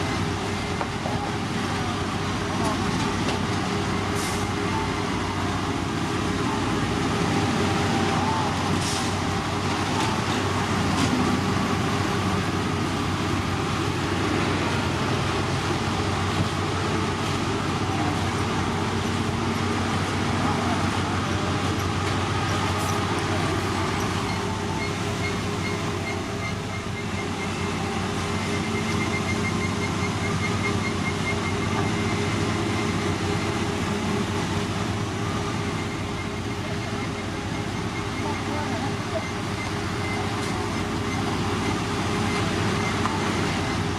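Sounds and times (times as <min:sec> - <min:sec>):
heavy diesel machinery drone: 0:00.0 - 0:43.9.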